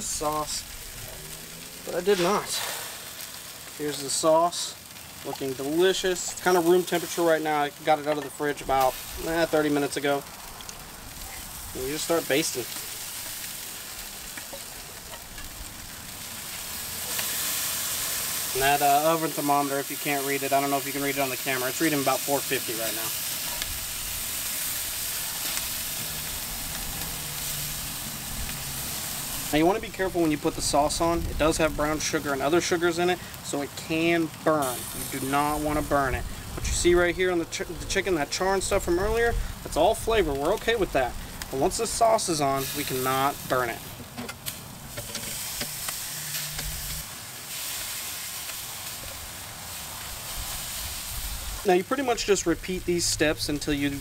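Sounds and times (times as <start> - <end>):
chicken sizzling on grill: 0.0 - 54.0
fat dripping onto coals hissing: 0.0 - 54.0.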